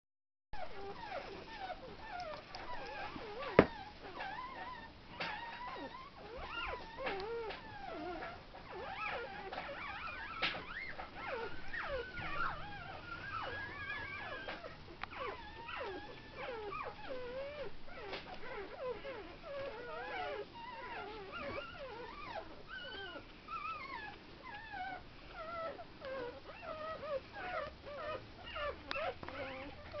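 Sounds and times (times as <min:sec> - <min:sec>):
puppy whining: 0:00.6 - 0:30.0.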